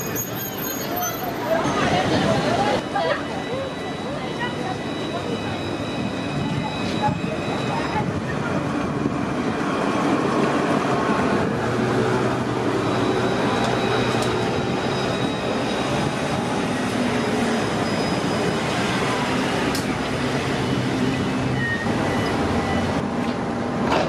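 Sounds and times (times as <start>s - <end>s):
tram rolling on rails: 0.0s - 24.0s.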